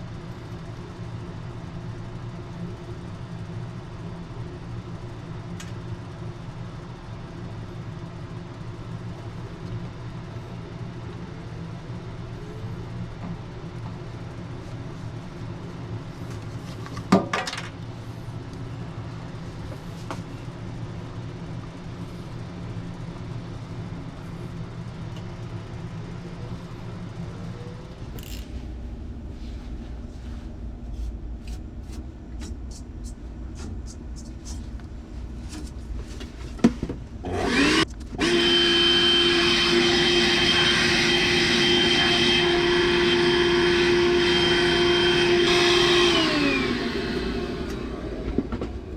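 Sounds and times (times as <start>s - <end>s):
steady mechanical hum: 0.0s - 48.9s.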